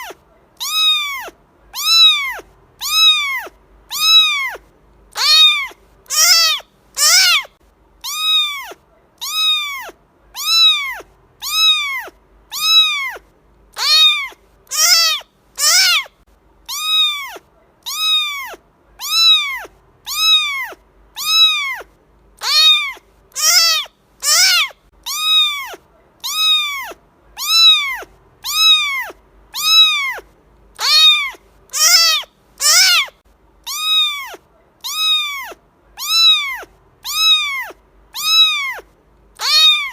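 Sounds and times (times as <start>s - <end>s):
cat meowing: 0.0s - 16.1s, 16.7s - 39.9s.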